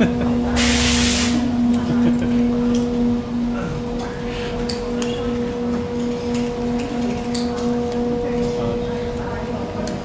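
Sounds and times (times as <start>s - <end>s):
electric machine hum: 0.0s - 10.0s.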